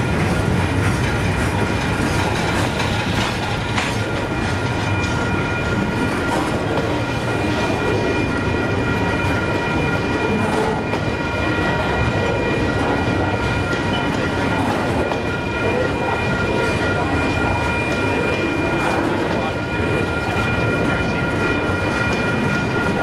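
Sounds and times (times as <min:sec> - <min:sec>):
crossing warning bell ringing: 0:00.0 - 0:23.0
train wheels rumbling on track: 0:00.0 - 0:23.0.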